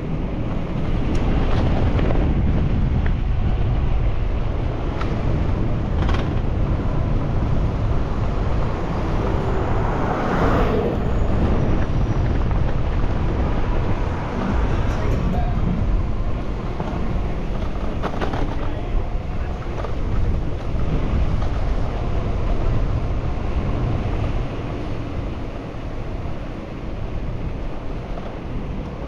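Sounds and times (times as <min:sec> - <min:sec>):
street traffic: 0:00.0 - 0:29.0
wind buffeting microphone: 0:00.0 - 0:29.0.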